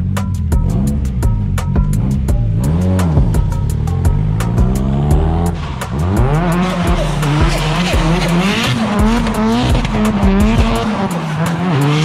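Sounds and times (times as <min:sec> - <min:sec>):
car engine revving hard: 0:02.0 - 0:12.0.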